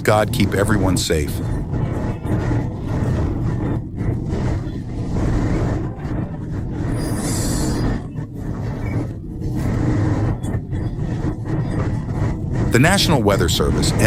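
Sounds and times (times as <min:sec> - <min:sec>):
storm wind on microphone: 0:00.0 - 0:14.0.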